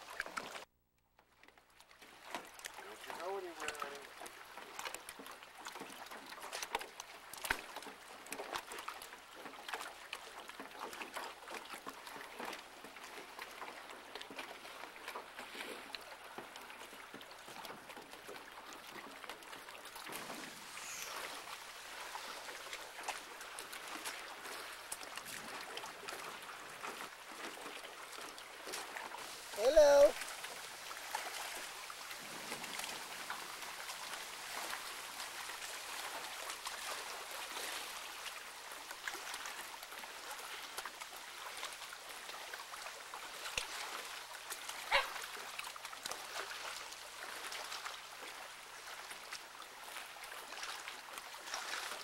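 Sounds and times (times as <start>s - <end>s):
lake water lapping and splashing: 0.0s - 52.0s.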